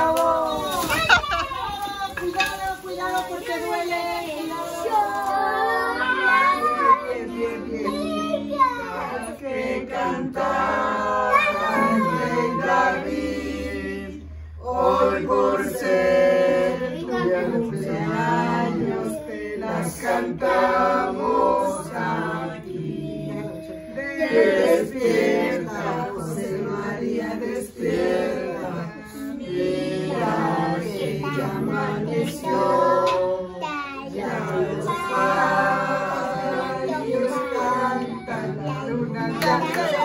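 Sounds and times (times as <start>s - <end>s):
group singing unaccompanied: 0.0s - 40.0s.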